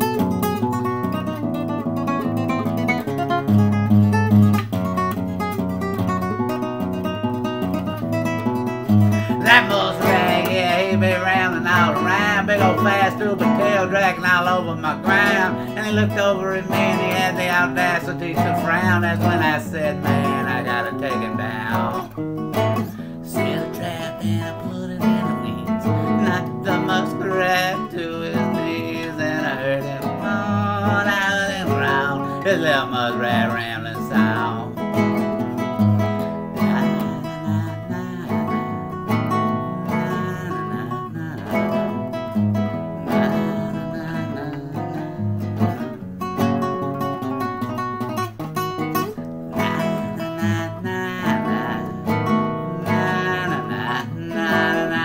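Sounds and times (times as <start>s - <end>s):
classical guitar strumming: 0.0s - 55.0s
man singing wordlessly: 6.0s - 55.0s.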